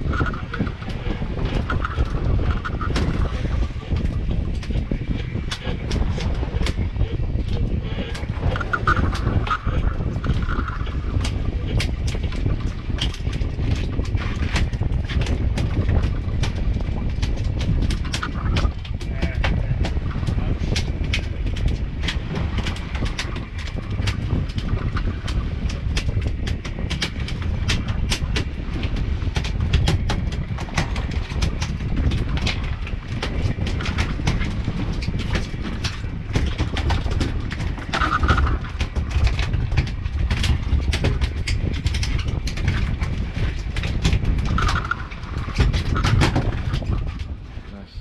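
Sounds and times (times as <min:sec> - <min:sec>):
boat engine rumble: 0:00.0 - 0:48.0.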